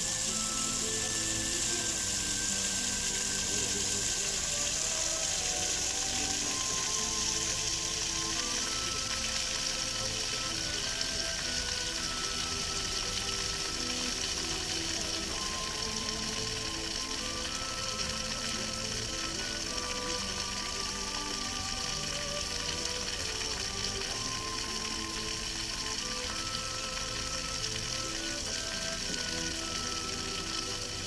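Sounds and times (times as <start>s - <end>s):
fountain water spraying: 0.0s - 31.0s
music playing: 0.0s - 31.0s.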